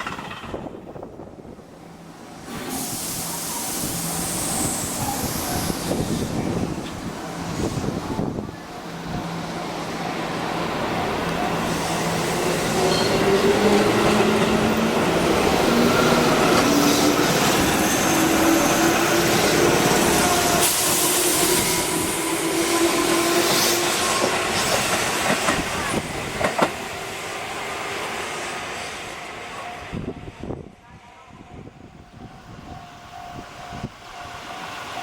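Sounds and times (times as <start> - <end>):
train wheel and rail noise: 0.0 - 35.0.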